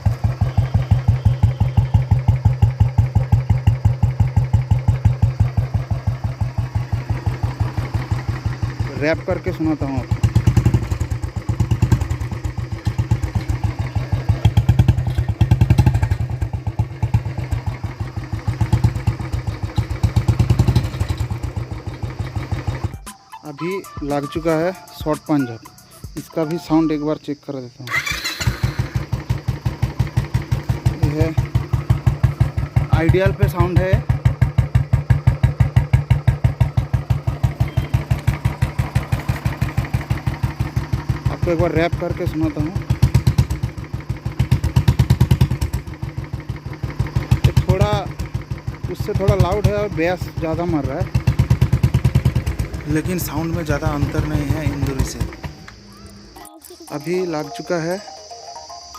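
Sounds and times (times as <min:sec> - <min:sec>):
motorcycle engine revving: 0:00.0 - 0:23.0, 0:27.8 - 0:56.4.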